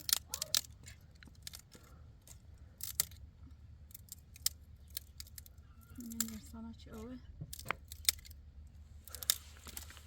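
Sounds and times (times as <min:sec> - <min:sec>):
small hard objects clinking: 0:00.0 - 0:08.4.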